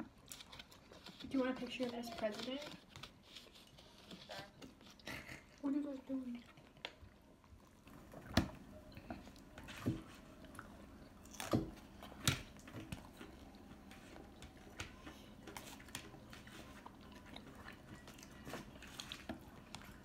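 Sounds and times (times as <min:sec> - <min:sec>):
chewing and biting: 0:00.0 - 0:05.6, 0:06.4 - 0:20.0.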